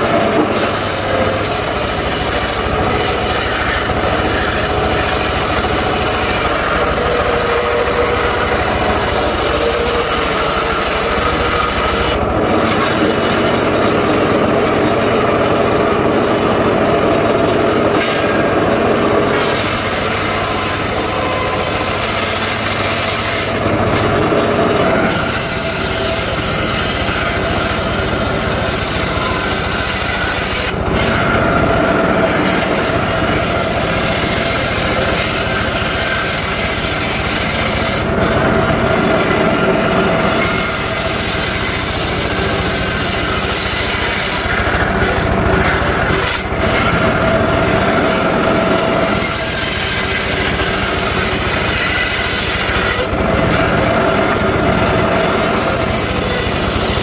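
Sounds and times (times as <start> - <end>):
circular saw cutting wood: 0.0 - 57.0.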